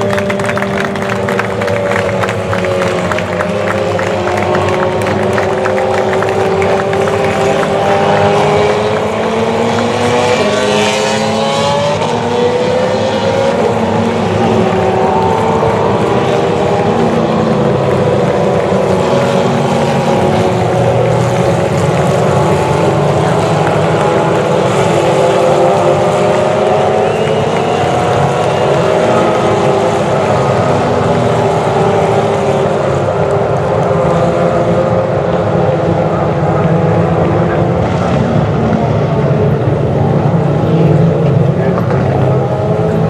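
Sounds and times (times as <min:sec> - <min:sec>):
race car engines at speed: 0:00.0 - 0:43.0.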